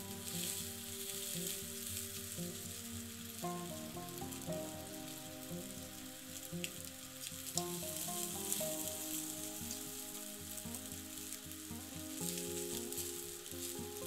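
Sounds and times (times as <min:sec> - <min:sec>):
background music: 0:00.0 - 0:14.0
chicken sizzling on grill: 0:00.0 - 0:14.0.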